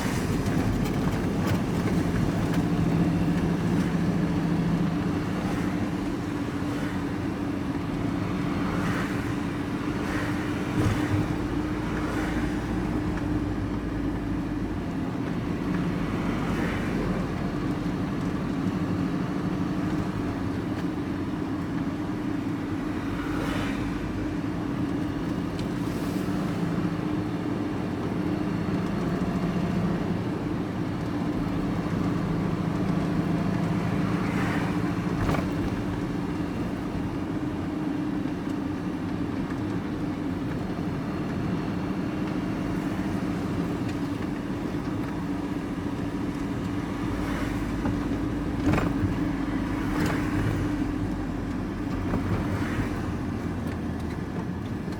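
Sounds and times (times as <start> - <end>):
road noise: 0.0 - 54.9
vehicle engine drone: 0.0 - 54.9.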